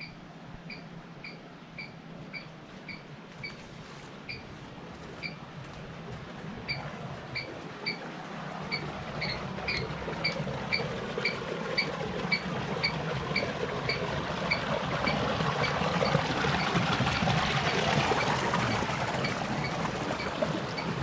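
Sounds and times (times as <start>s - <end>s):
water rushing: 2.0s - 21.0s.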